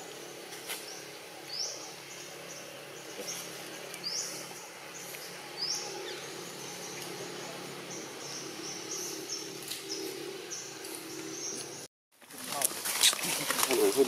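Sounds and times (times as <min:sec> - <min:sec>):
bird chirping: 0:00.0 - 0:11.9
low background hum: 0:00.0 - 0:11.9.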